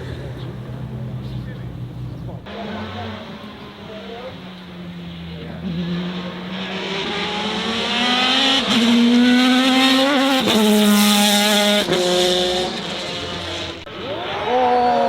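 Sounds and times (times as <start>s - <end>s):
car engine accelerating: 0.0s - 13.9s.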